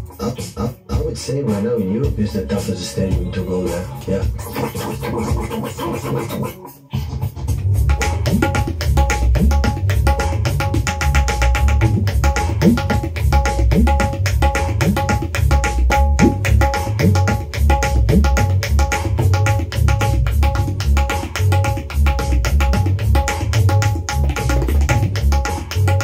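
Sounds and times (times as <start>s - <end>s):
tabla playing fast rhythm: 0.0s - 26.0s.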